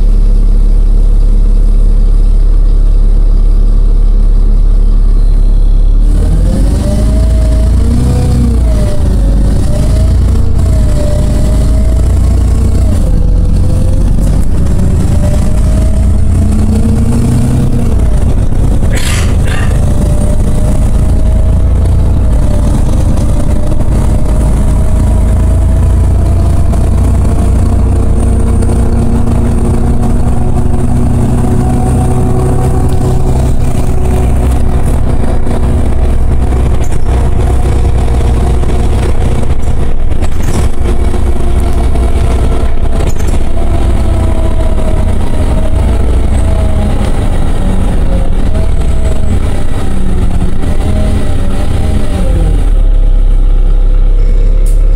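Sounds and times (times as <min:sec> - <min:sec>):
bus engine drone with whine: 0:00.0 - 0:54.9.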